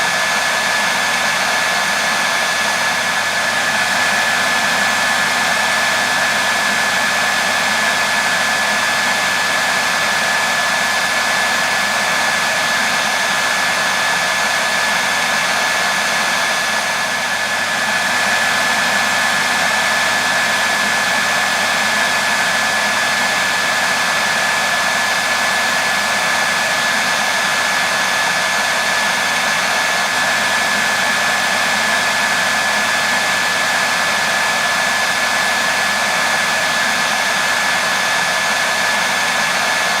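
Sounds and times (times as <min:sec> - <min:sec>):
hair dryer running: 0:00.0 - 0:40.0.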